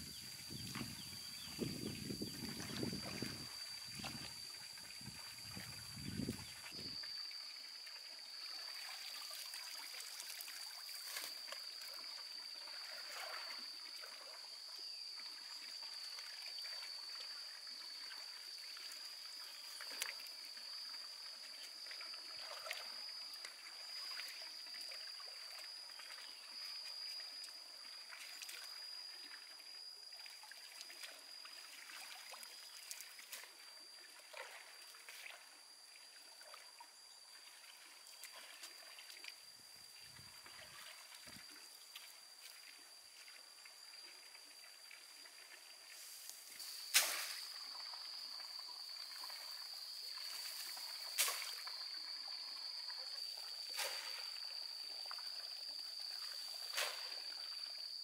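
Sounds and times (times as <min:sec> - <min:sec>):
soft trickling hiss: 0:00.0 - 0:58.0.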